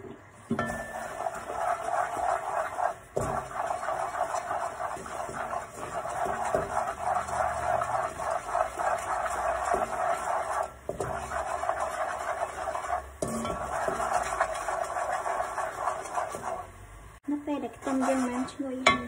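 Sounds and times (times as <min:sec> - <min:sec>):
wooden spoon scraping a pot: 0:00.5 - 0:16.7, 0:17.8 - 0:19.0.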